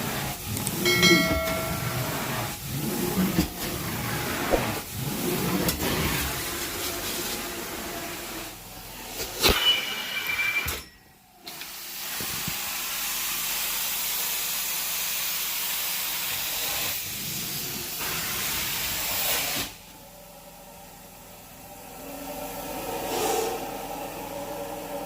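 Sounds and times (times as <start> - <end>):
carpet cleaner hissing: 1.7 - 9.4, 11.5 - 25.0.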